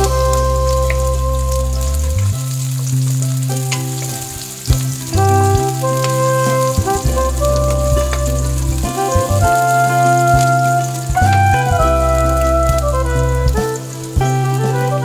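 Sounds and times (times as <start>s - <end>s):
background music: 0.0s - 15.0s
garlic and onions sizzling in oil: 0.0s - 15.0s.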